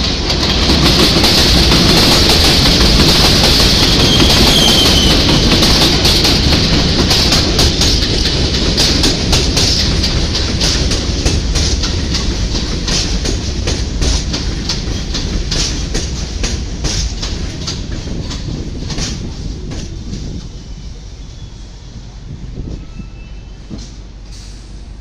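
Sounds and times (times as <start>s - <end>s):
train wheels clacking over rail joints: 0.0s - 20.6s, 23.6s - 24.8s
train rumble: 0.0s - 25.0s.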